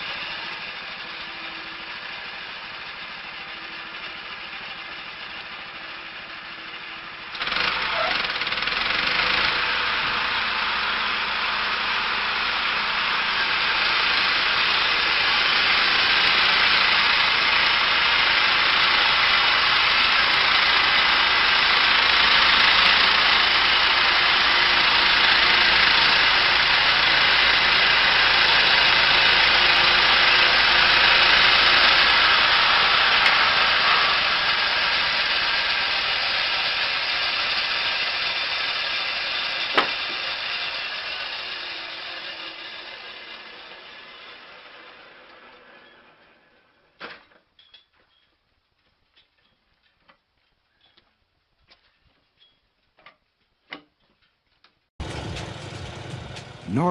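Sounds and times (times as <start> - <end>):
heavy machinery engine running: 0.0 - 43.7, 55.0 - 56.9.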